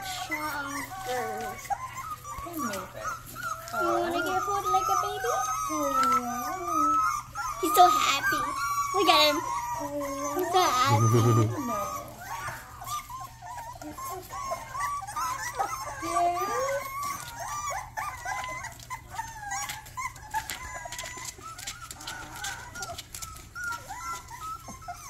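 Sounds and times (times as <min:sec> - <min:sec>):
puppies whining: 0:00.0 - 0:25.0.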